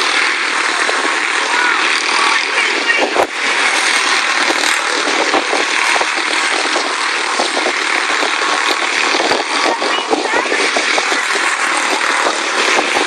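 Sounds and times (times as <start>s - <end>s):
small race car engines: 0.0s - 13.0s.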